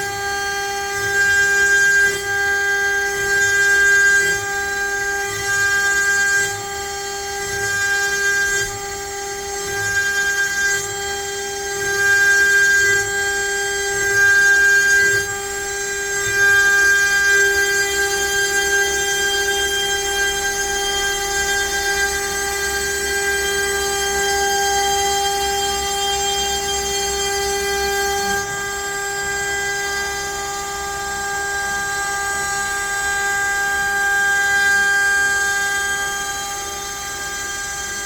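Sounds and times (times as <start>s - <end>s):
router bit cutting wood: 0.0s - 38.0s
router spindle whining: 0.0s - 38.0s.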